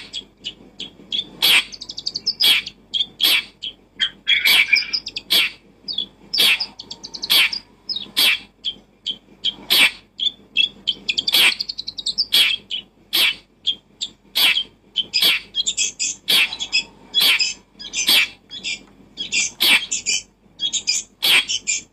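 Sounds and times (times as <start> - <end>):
bird chirping and trilling: 0.0 - 21.9.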